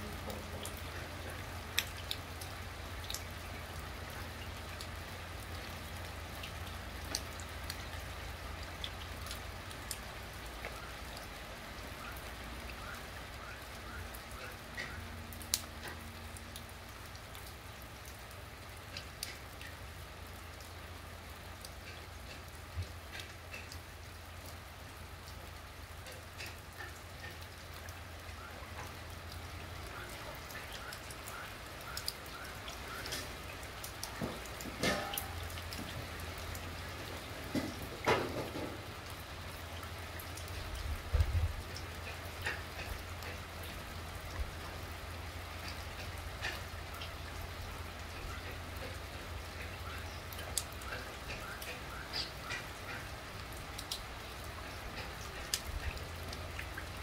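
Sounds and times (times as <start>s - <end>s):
close raindrops landing: 0.0s - 57.0s
rain falling on wet ground: 0.0s - 57.0s.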